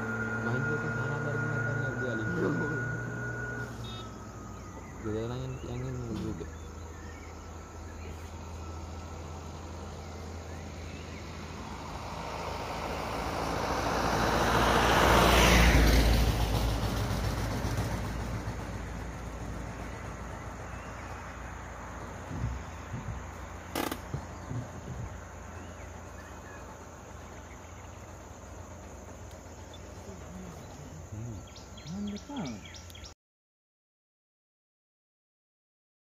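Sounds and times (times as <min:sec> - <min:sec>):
vehicle passing by: 0:00.0 - 0:33.1.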